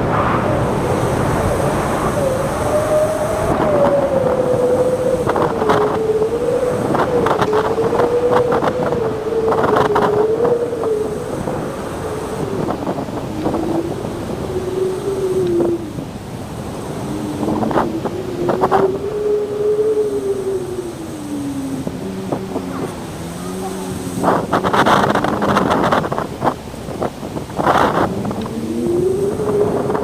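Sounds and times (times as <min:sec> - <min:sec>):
strong wind whistling: 0:00.0 - 0:30.0.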